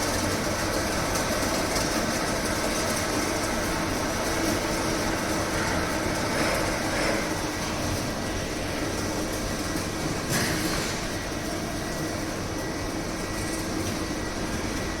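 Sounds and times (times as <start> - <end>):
milling machine running: 0.0 - 15.0.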